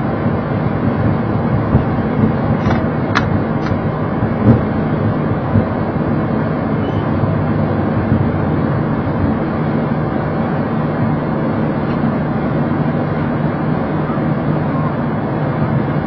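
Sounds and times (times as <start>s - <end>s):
aircraft cockpit rumble: 0.0s - 16.0s.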